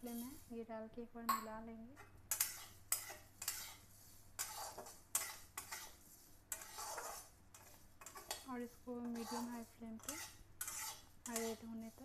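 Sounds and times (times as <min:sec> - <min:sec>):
metal spatula scraping metal pan: 0:00.0 - 0:00.5, 0:02.3 - 0:12.0.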